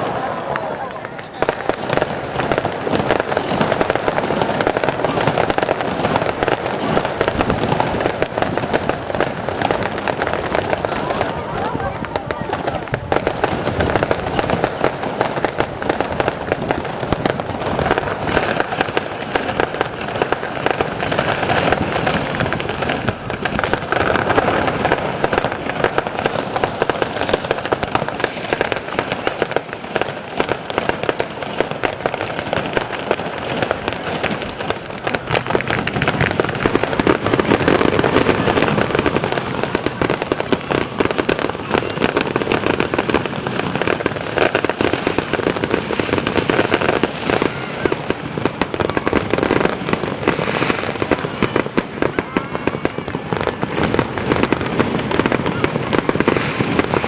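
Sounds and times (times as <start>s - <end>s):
fireworks crackling: 0.0s - 57.0s.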